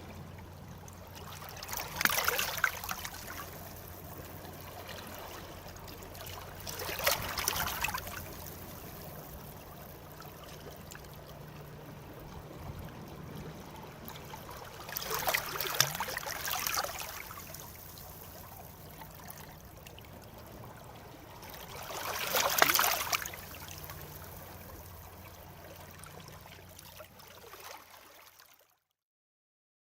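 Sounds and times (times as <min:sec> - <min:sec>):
surf washing: 0:00.0 - 0:28.3
waves breaking: 0:00.0 - 0:28.6.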